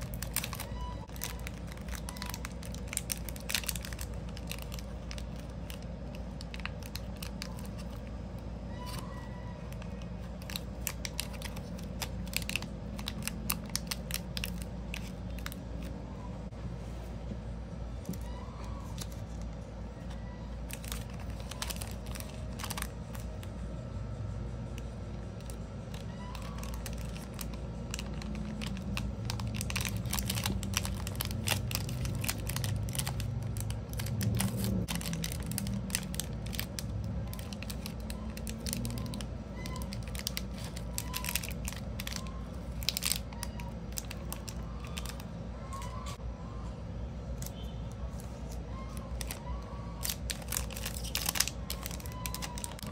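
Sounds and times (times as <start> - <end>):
cellophane bag crinkling: 0.0 - 16.0, 18.1 - 23.6, 24.9 - 46.2, 47.3 - 52.9.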